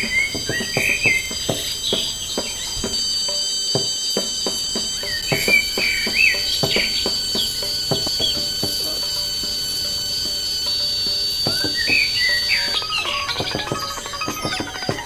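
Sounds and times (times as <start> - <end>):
bird chirps: 0.0 - 15.0
crickets trilling: 0.0 - 15.0.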